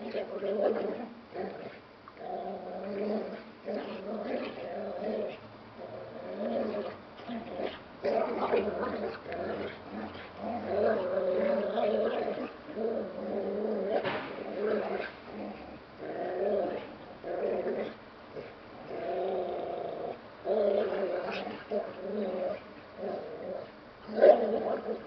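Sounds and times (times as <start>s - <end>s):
dogs growling in play: 0.0s - 25.0s.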